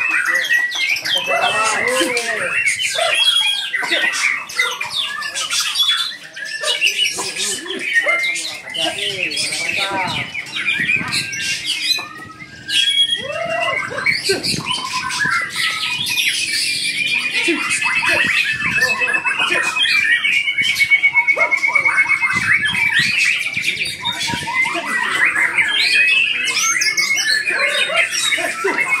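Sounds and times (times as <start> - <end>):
birds whistling and chirping: 0.0 - 29.0.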